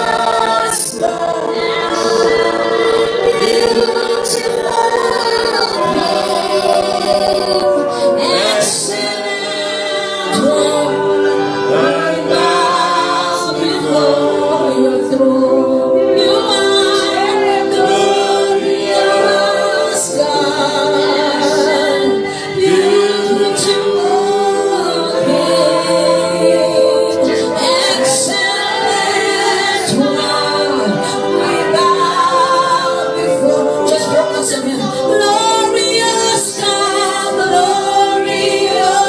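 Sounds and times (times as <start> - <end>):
congregation singing: 0.0 - 39.0.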